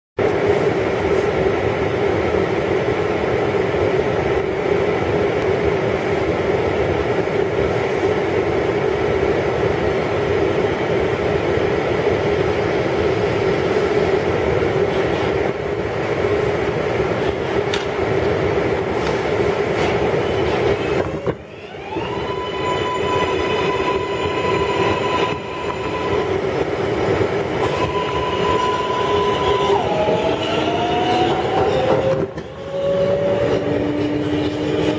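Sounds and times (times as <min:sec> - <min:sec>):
subway wheels rumbling on track: 0:00.2 - 0:34.9.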